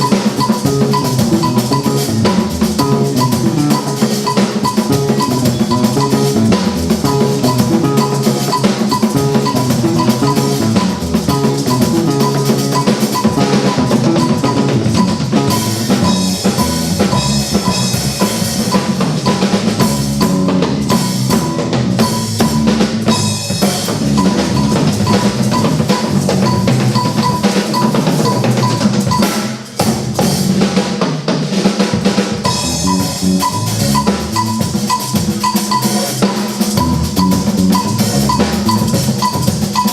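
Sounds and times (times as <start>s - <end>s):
music with busy drum kit: 0.0s - 39.9s.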